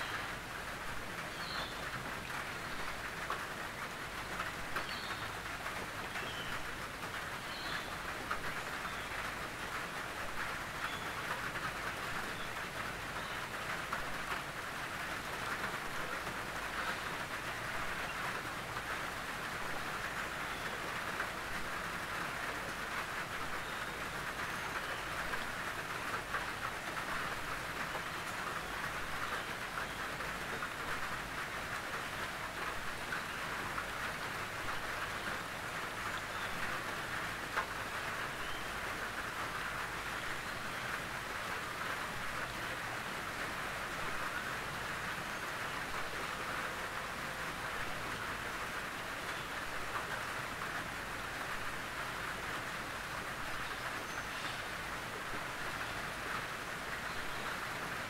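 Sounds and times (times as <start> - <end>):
rain on a tin roof: 0.0 - 58.0.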